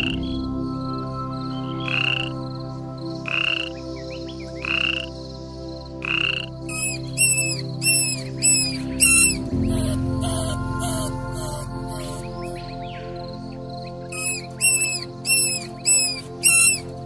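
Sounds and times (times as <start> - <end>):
frogs calling: 0.0 - 0.4, 1.6 - 17.0
steady low drone: 0.0 - 17.0.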